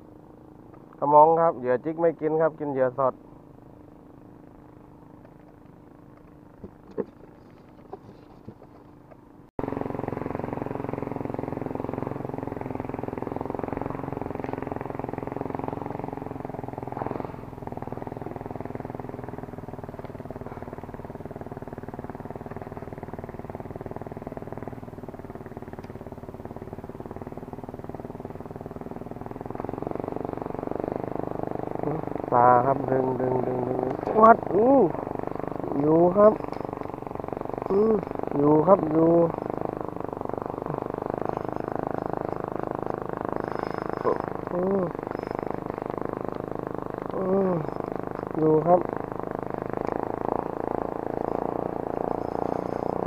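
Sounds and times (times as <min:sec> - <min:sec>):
steady motor drone: 0:00.0 - 0:53.0.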